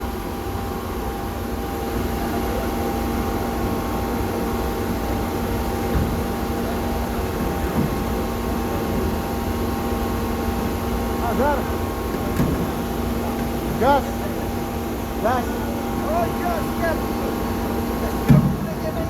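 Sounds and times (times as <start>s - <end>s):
ferry machinery droning: 0.0s - 19.0s.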